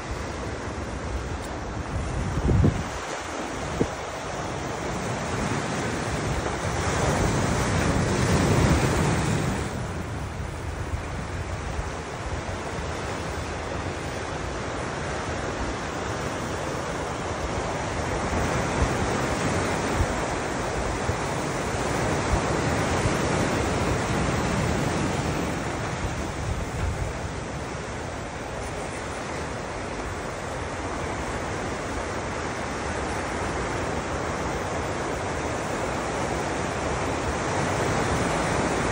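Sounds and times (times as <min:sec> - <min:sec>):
ocean surf washing ashore: 0:00.0 - 0:38.9
wind buffeting microphone: 0:00.0 - 0:38.9.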